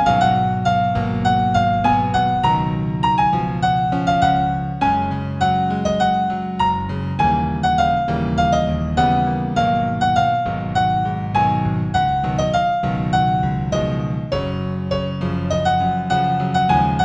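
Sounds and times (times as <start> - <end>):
low sustained piano chords: 0.0 - 17.0
slow piano melody: 0.0 - 17.0.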